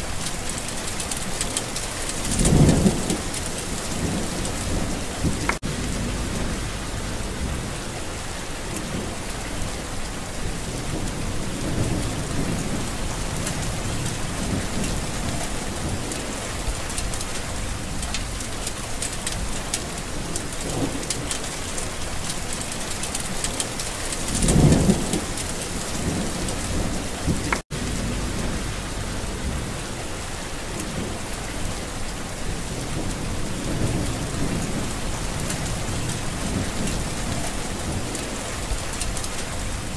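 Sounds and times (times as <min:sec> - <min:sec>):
heavy rain: 0:00.0 - 0:39.9
thunder rumbling: 0:01.5 - 0:22.5, 0:23.3 - 0:39.9.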